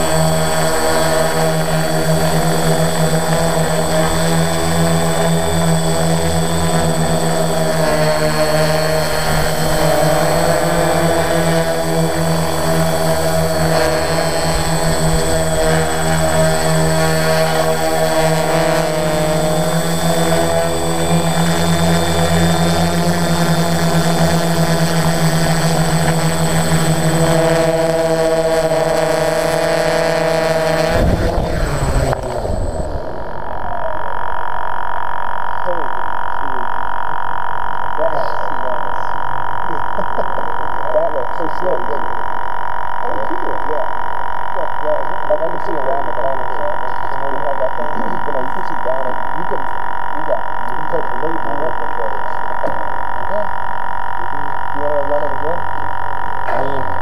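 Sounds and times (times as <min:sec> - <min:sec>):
drone motors and propellers whining: 0:00.0 - 0:57.0.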